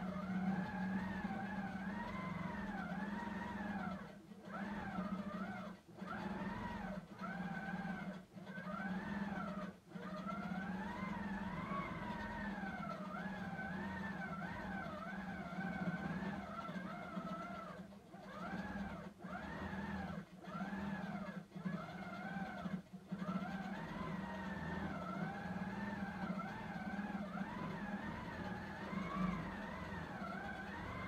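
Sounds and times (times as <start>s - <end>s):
machine whine rising and falling: 0.0s - 31.0s
quilting machine motor hum: 0.0s - 31.0s.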